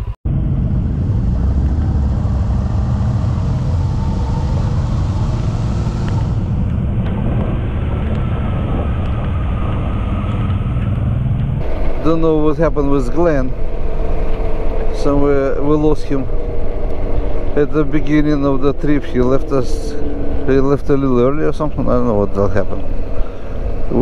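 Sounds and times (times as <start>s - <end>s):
motorcycle engine and road drone: 0.0s - 24.0s
wind noise: 0.0s - 24.0s.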